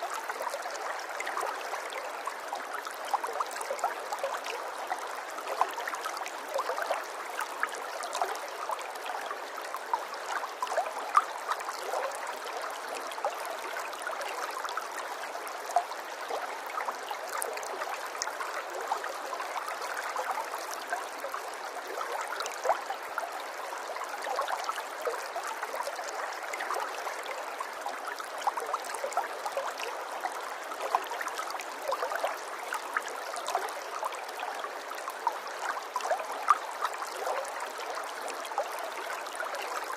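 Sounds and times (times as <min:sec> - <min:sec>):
stream water burbling: 0:00.0 - 0:39.9.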